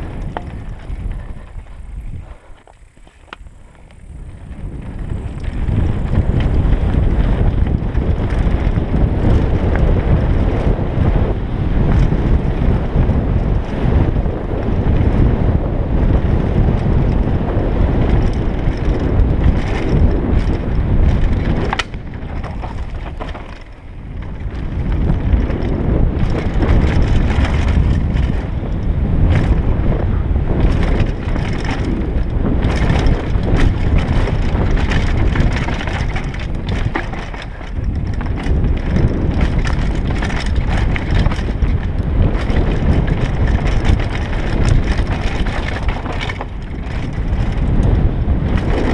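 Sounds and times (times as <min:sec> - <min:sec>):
bike clicks and knocks: 0:00.0 - 0:15.3, 0:15.9 - 0:48.9
bike tyres on dirt trail: 0:00.0 - 0:48.9
wind buffeting microphone: 0:00.0 - 0:48.9.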